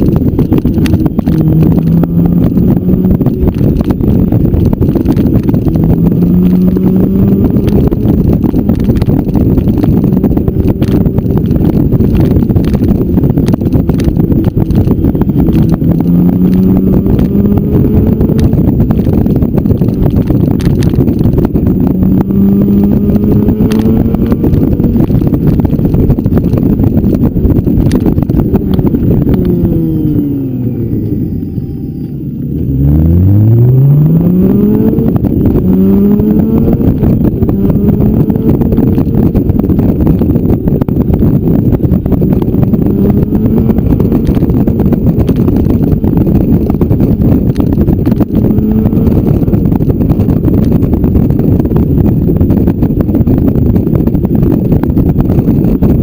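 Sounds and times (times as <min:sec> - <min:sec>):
motorcycle engine accelerating: 0:00.0 - 0:56.0
wind rush on microphone: 0:00.0 - 0:56.0.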